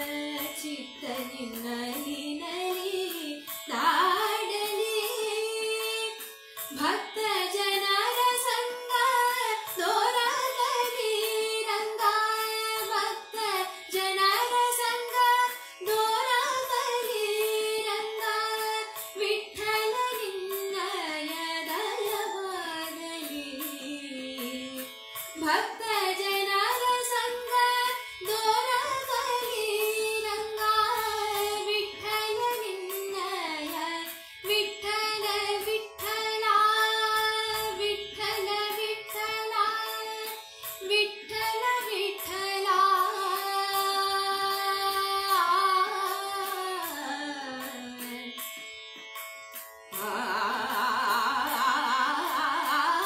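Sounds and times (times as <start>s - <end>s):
woman singing: 0.0s - 48.4s, 49.9s - 53.0s.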